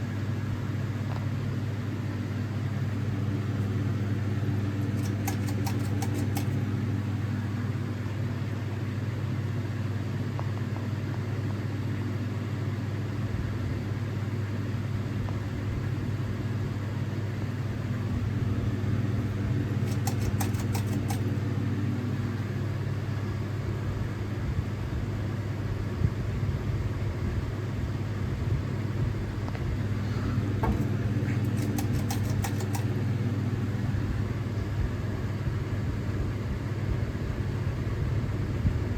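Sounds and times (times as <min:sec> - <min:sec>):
ceiling fan motor humming: 0:00.0 - 0:38.9.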